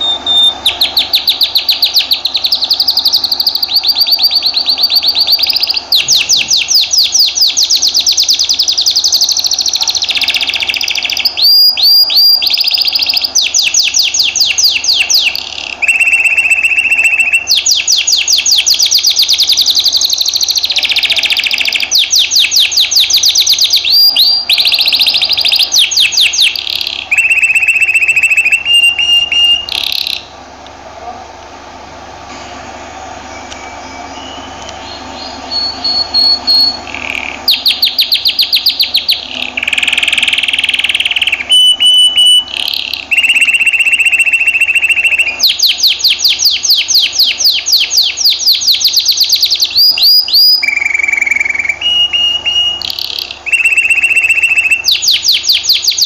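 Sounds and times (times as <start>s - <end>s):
canary singing trills: 0.0s - 30.6s, 33.1s - 56.0s.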